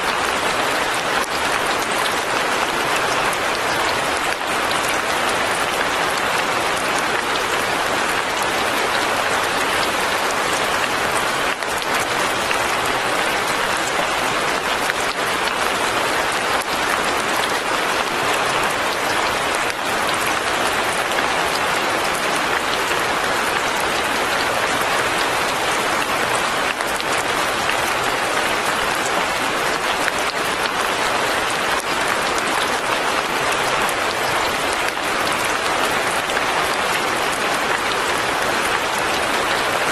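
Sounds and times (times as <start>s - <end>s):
light rain on leaves and roof: 0.0s - 39.9s.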